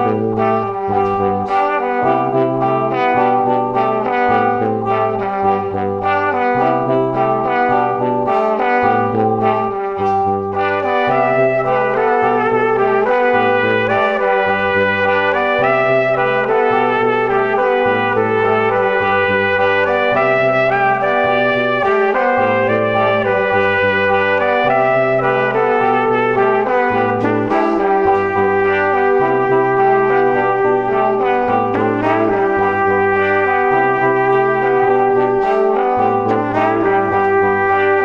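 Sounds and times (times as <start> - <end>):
background music with bass line: 0.0 - 38.0.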